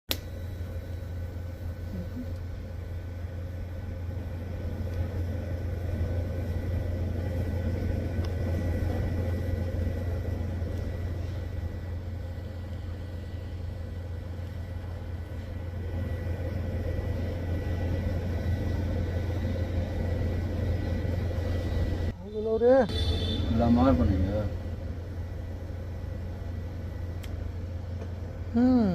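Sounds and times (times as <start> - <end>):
faint high whine: 0.1 - 28.9
welder electric hum: 0.1 - 28.9.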